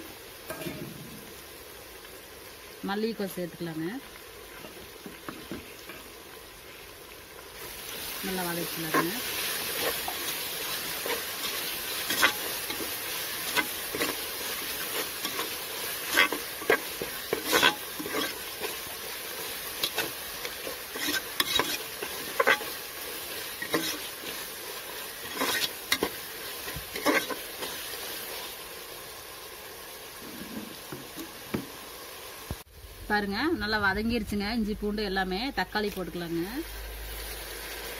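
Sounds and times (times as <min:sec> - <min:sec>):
food sizzling in oil: 0:00.0 - 0:37.9.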